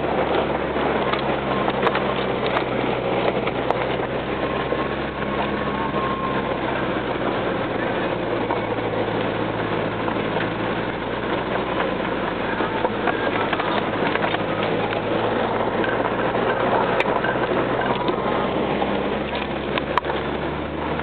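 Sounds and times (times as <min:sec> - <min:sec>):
rattles and ticks: 0:00.0 - 0:21.0
road noise: 0:00.0 - 0:21.0
vehicle engine running: 0:00.0 - 0:21.0.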